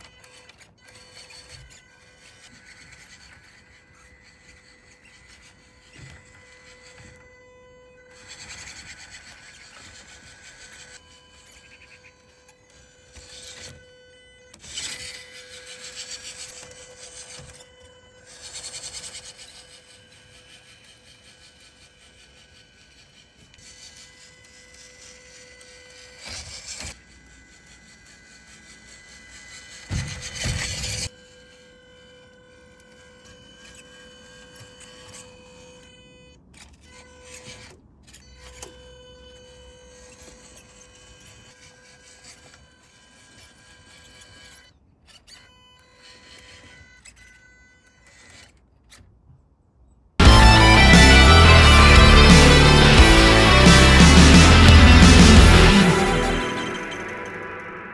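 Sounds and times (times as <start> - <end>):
toy car motors whining: 0.0 - 57.9.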